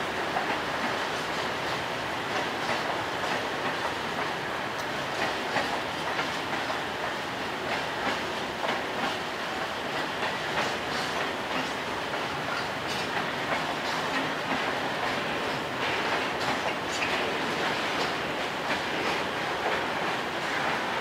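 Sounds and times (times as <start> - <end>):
train rumble: 0.0 - 21.0
train wheels clicking over rail joints: 0.0 - 21.0.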